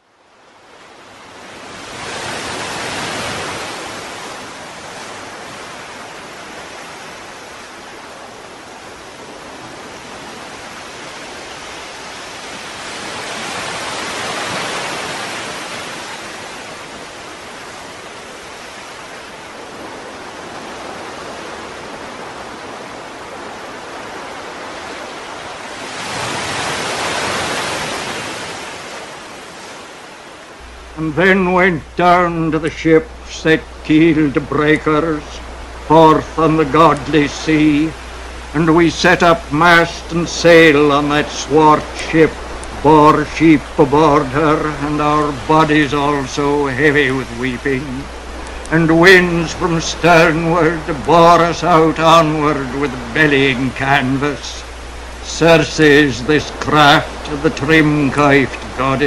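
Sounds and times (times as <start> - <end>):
ocean waves rushing: 0.0 - 59.0.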